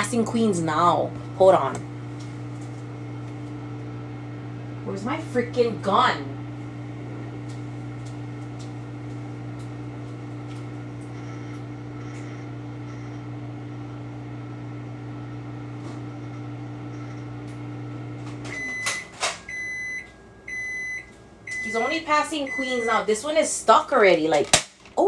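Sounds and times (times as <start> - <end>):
appliance beeping: 0.0 - 23.4
cooking appliance humming: 0.0 - 25.0.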